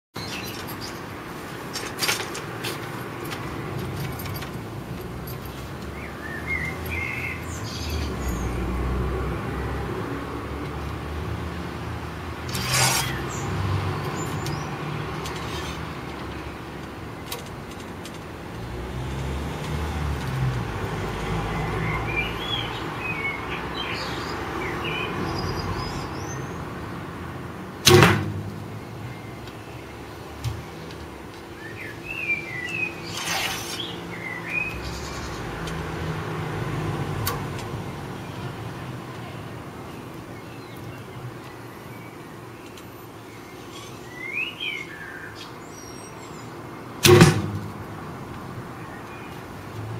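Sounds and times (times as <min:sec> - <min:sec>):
birds chirping: 0:00.1 - 0:27.1, 0:27.7 - 0:49.9.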